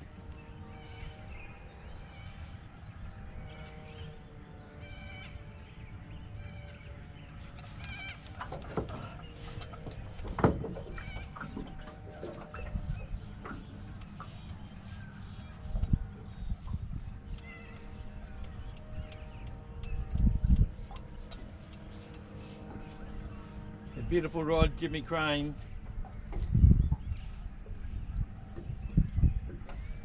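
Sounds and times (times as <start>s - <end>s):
birds calling: 0.0s - 30.0s
low rumble: 5.4s - 30.0s.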